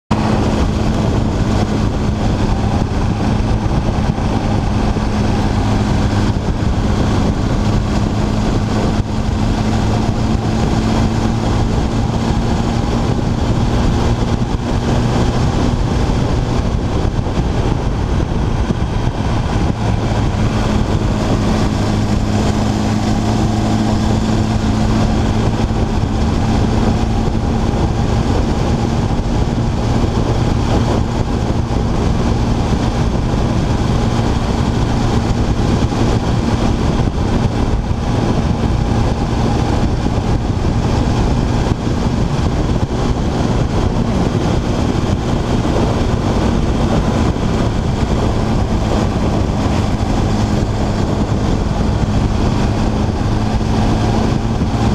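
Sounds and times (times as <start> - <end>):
motorcycle engine cruising: 0.0 - 54.9
wind and road noise: 0.0 - 54.9.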